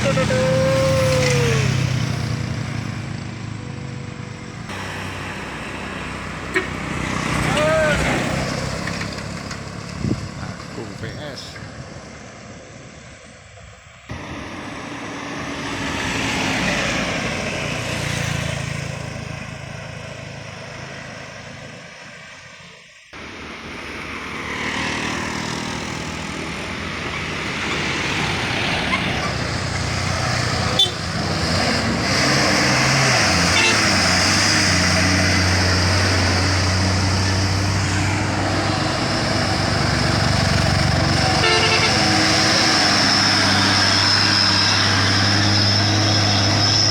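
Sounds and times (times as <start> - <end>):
heavy vehicles passing: 0.0 - 46.9.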